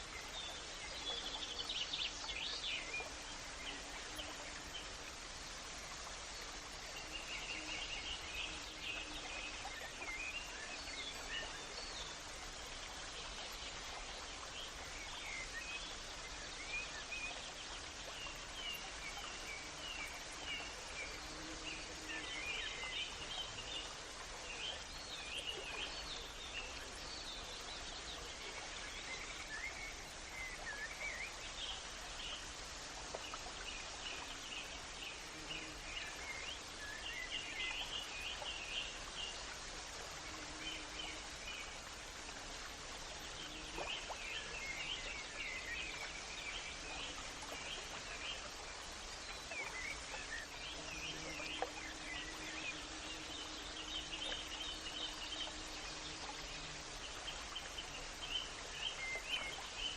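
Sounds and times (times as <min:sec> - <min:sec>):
soft background hiss: 0:00.0 - 0:59.9.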